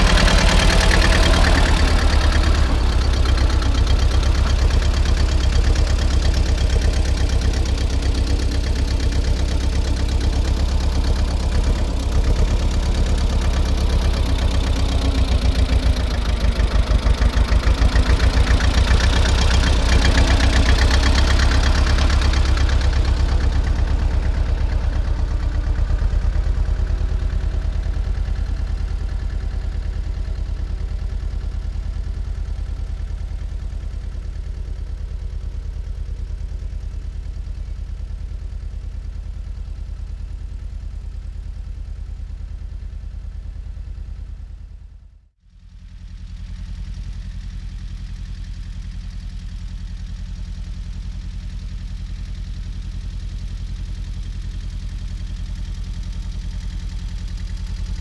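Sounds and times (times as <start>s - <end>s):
tractor engine running: 0.0s - 44.8s, 45.8s - 58.0s.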